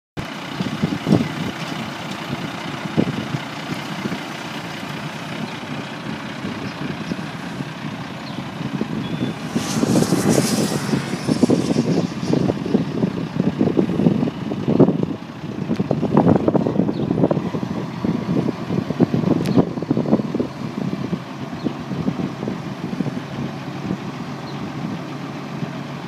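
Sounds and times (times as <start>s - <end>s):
diesel truck engine rumbling: 0.2s - 26.0s.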